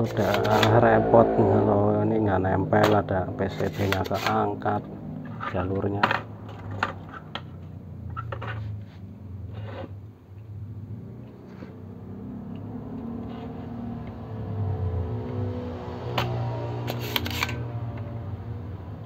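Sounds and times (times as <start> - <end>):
low steady hum: 0.0 - 15.6.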